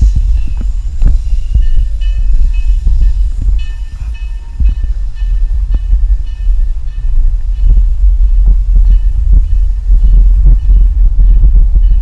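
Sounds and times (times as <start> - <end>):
railroad car rumbling: 0.0 - 12.0.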